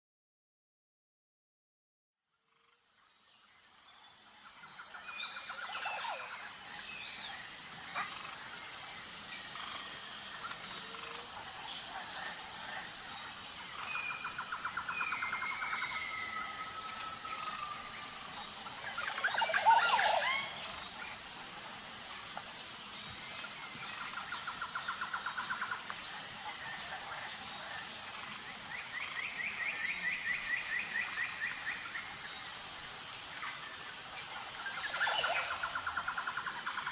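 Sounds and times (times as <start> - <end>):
insect drone: 2.3 - 36.9.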